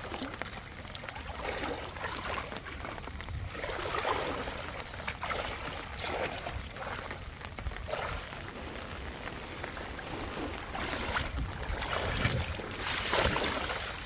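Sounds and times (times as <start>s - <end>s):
rainwater pouring and splashing: 0.0s - 14.0s
water drips: 0.0s - 14.0s.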